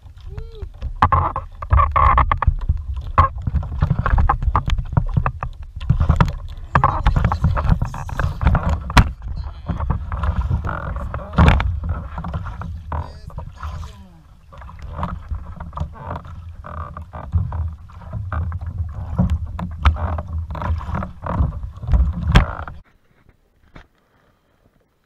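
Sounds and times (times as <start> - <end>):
knocks and clicks on boat: 0.0 - 22.8
water sloshing against hull: 0.0 - 22.9.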